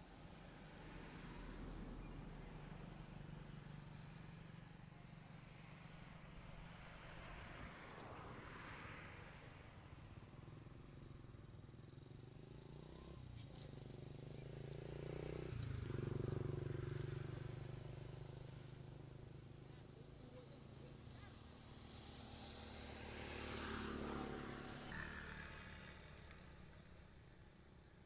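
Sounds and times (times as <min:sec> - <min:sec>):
distant motor vehicle hum: 0:00.6 - 0:28.0.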